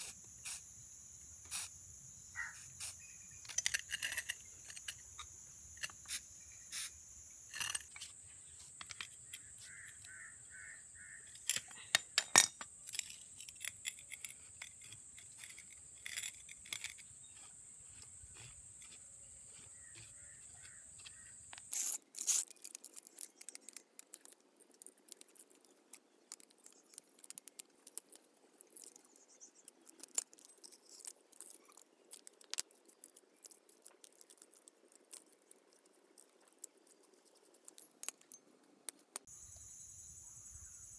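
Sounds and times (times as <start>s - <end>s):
insect chirring: 0.0s - 38.4s, 39.0s - 40.9s.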